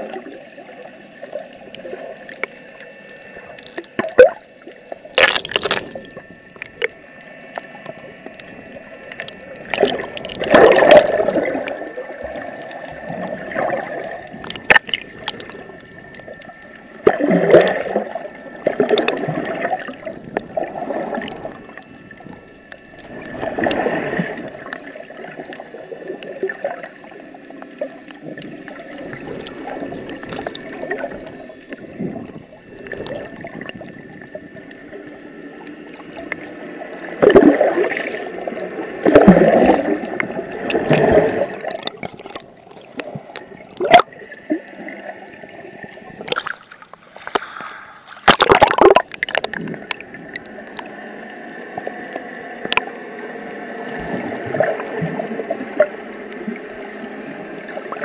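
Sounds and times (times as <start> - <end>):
faint steady whine: 0.0 - 58.0
muffled underwater water movement: 0.0 - 58.0.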